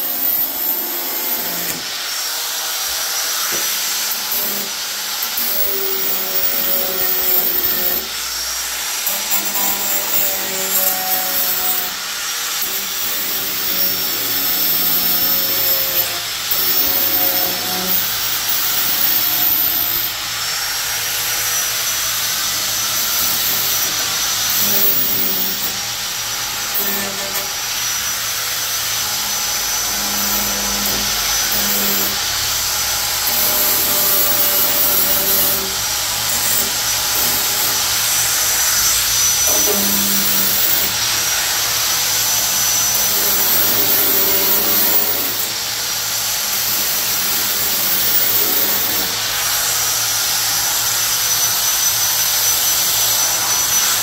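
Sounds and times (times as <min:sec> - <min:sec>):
electric grinder grinding metal: 0:00.0 - 0:54.0.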